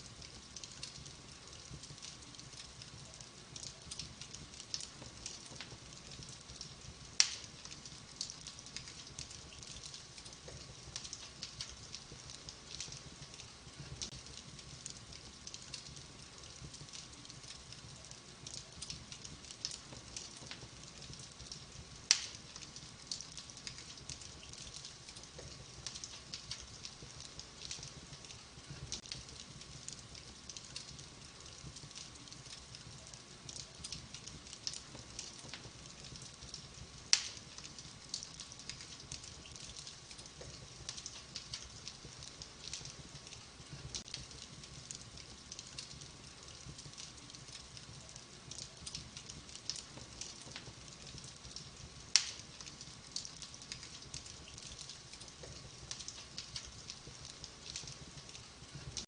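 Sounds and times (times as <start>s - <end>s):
wood fire crackling: 0.0s - 59.0s
loud fire pops: 0.2s - 17.7s, 18.4s - 59.0s.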